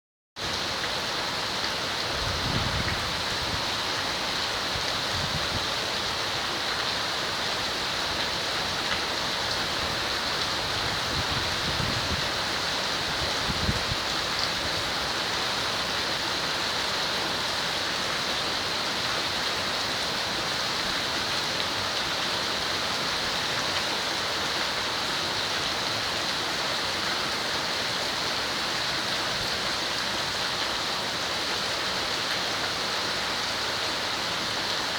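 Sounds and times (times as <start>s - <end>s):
heavy rain falling: 0.4s - 34.9s.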